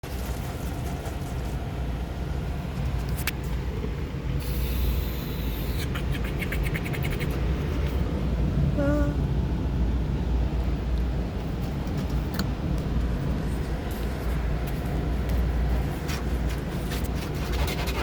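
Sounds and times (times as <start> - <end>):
car rumbling: 0.0 - 18.0.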